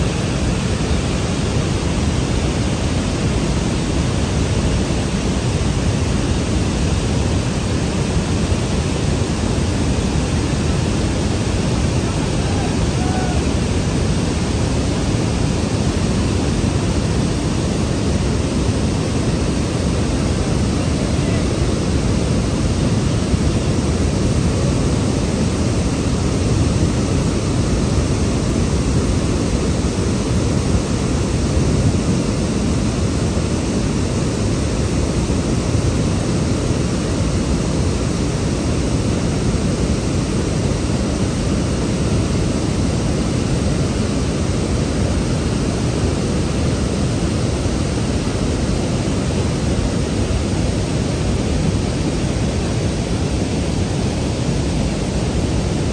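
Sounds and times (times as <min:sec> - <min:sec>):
water rushing through spillway: 0:00.0 - 0:55.9.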